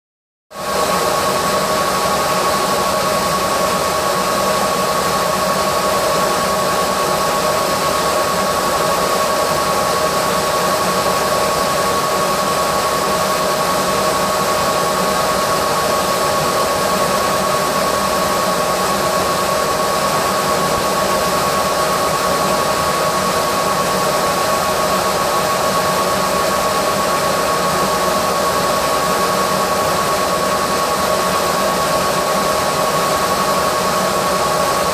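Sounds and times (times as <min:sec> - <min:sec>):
laser engraving machine running: 0:00.6 - 0:34.9.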